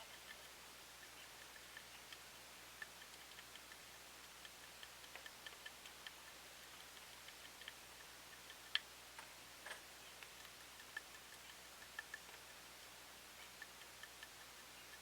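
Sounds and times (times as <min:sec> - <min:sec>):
small irregular ticks: 0:00.0 - 0:15.0.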